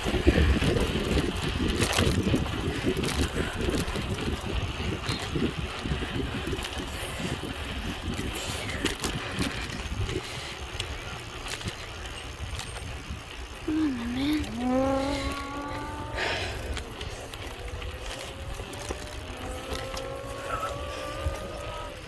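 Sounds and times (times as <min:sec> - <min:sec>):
low uneven rumble from riding: 0:00.0 - 0:22.0
small clicks and rattles: 0:00.0 - 0:22.0
wind buffeting microphone: 0:00.0 - 0:22.0.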